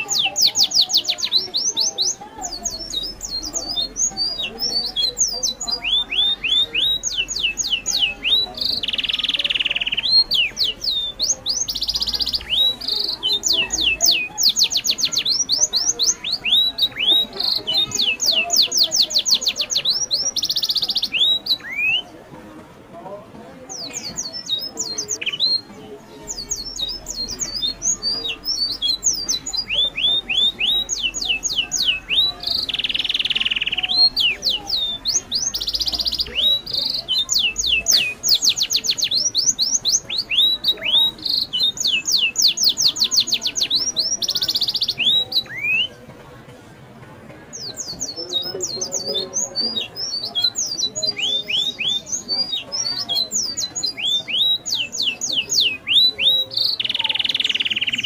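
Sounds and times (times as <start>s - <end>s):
birds chirping: 0.0s - 22.3s, 23.0s - 58.0s.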